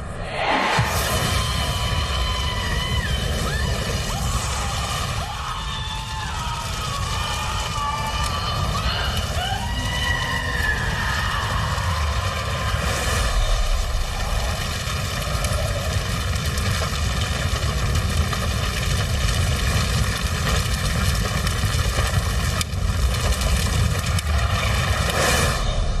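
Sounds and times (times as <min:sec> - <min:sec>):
large fire roaring: 0:00.0 - 0:26.0
faint fire crackles: 0:00.2 - 0:26.0.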